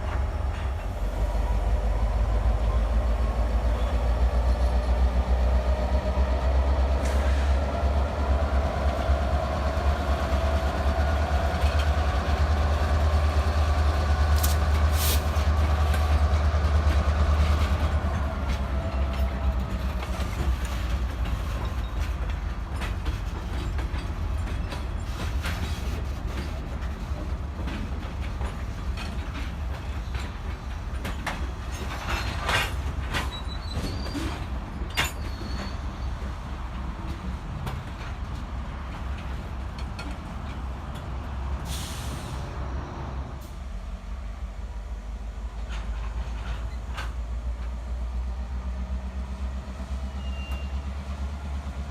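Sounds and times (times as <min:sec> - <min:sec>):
freight train rumbling: 0:00.0 - 0:51.9
wheels clicking over rail joints: 0:06.6 - 0:41.7, 0:45.4 - 0:51.9.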